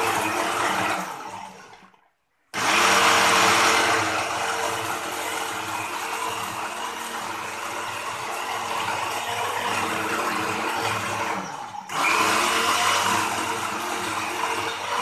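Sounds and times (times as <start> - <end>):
electric blender whirring: 0.0 - 15.0.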